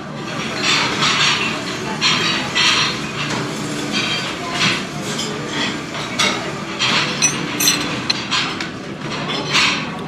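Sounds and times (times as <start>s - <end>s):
utensils clinking against dishes: 0.2s - 10.0s.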